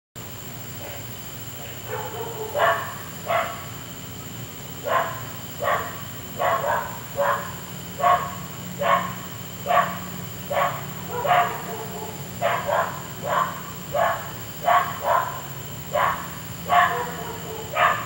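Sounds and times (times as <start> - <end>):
steady hum: 0.2 - 18.0
dog barking: 1.6 - 3.8, 4.8 - 18.0.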